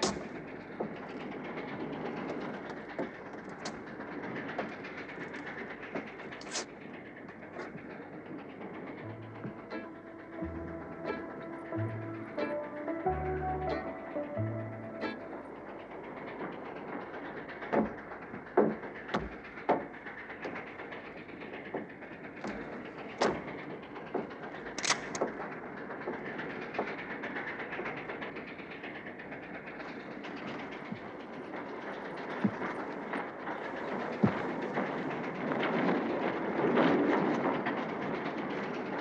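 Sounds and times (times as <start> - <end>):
train carriage rumble: 0.0 - 39.0
wheels clicking on rail joints: 0.0 - 39.0.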